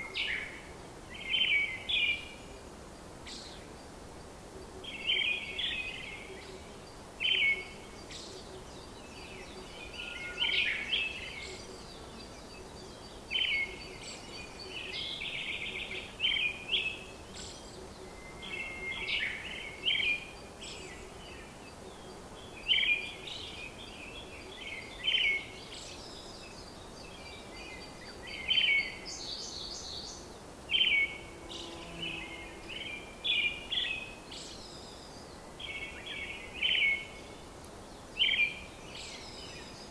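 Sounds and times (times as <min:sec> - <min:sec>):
birds chirping and singing: 0:00.0 - 0:02.5, 0:04.7 - 0:39.9
faint background hiss: 0:00.0 - 0:39.9.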